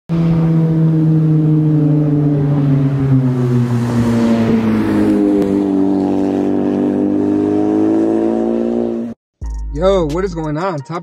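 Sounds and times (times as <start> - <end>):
car engine accelerating: 0.1 - 9.2.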